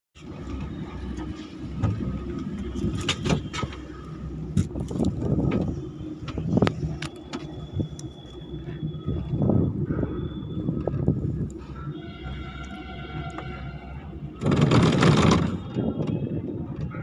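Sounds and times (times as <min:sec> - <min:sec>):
gondola cabin rumble: 0:00.2 - 0:17.0.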